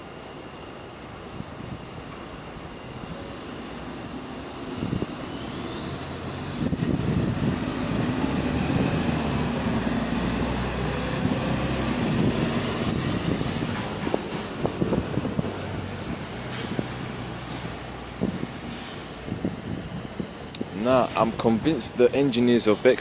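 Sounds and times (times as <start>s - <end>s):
bus diesel engine under load: 0.0s - 23.0s.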